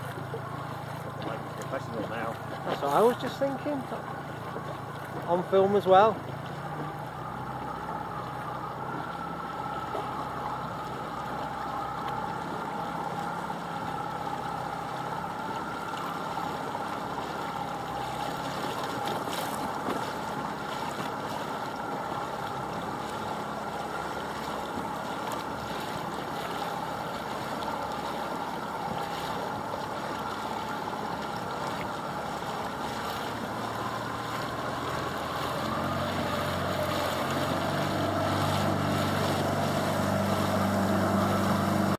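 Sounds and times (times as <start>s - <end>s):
boat engine running: 0.0s - 41.9s
water noise: 0.0s - 41.9s
wind: 0.0s - 41.9s.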